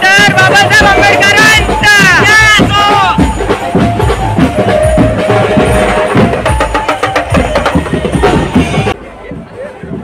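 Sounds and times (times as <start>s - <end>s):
festival music with driving drums: 0.0s - 10.0s.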